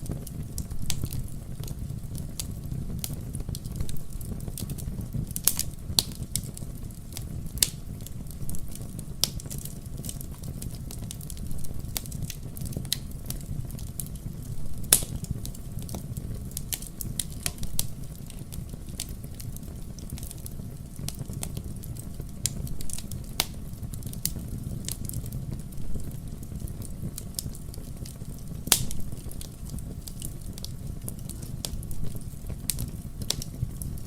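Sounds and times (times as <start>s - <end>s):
fire popping and snapping: 0.0s - 34.0s
low rumble of flames: 0.0s - 34.0s.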